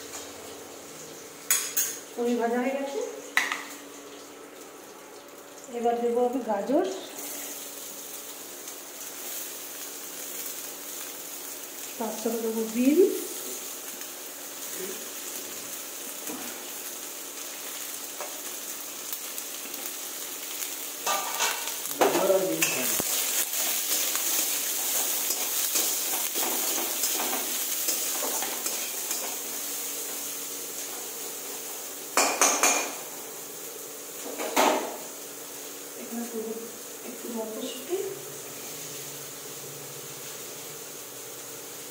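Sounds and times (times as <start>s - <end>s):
vegetables sizzling in oil: 0.0s - 41.9s.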